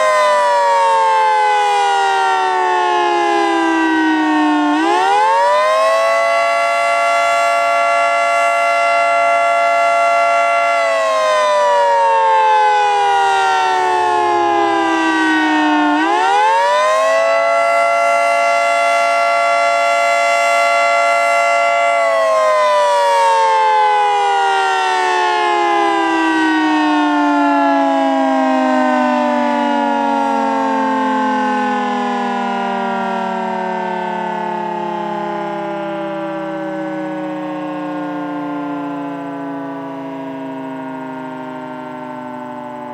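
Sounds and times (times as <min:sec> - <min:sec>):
dual-tone warning siren wailing: 0:00.0 - 0:42.9.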